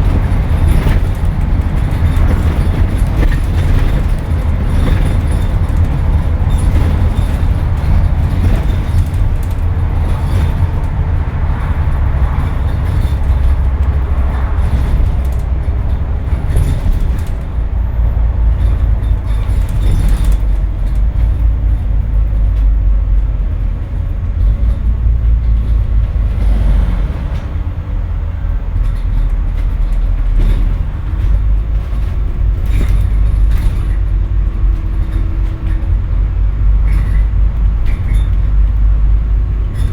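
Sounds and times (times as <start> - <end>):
bus engine working hard: 0.0 - 39.9
knocks and rattles: 0.0 - 39.9.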